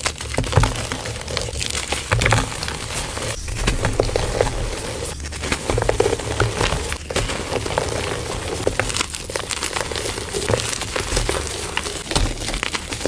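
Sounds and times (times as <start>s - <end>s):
concrete mix crackling and scraping: 0.0s - 13.0s.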